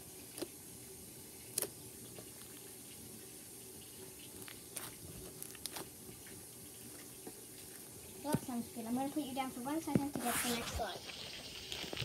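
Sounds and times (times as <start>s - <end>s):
slime squelching: 0.0s - 0.7s, 1.4s - 9.0s, 9.9s - 12.0s
low steady hum: 0.0s - 12.0s.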